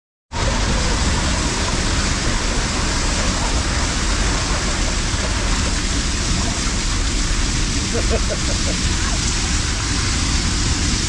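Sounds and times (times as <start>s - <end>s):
water rushing down slide tube: 0.3s - 11.0s.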